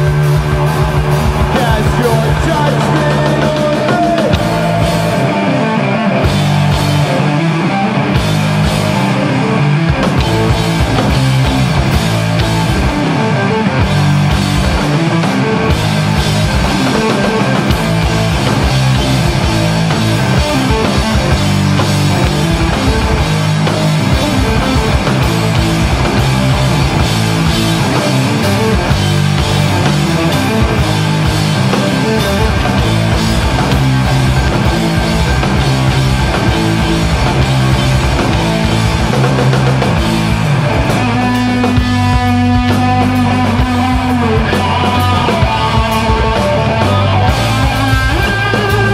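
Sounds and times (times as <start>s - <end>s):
heavy rock band playing: 0.0s - 48.9s.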